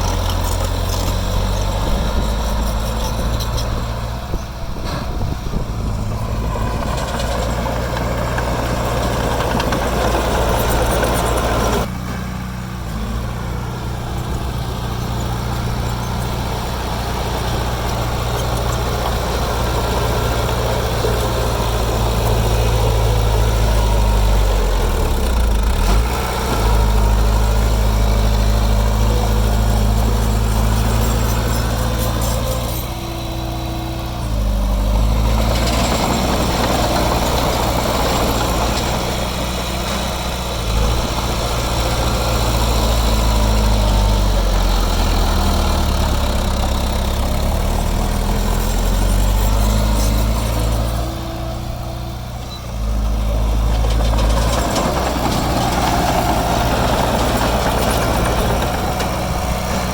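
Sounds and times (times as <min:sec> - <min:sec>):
diesel engine of earthmover running: 0:00.0 - 0:59.9.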